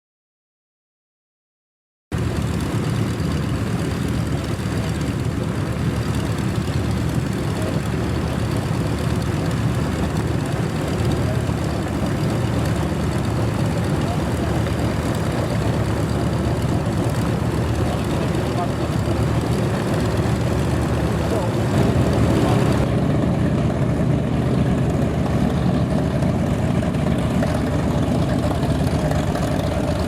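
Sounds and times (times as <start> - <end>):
propeller aircraft piston engine: 2.1 - 30.0.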